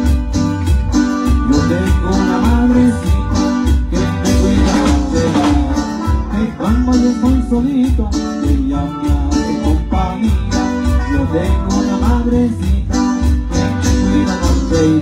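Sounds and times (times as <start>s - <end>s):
drum kit steady beat: 0.0s - 15.0s
electric guitar: 0.0s - 15.0s
electronic keyboards: 0.0s - 15.0s.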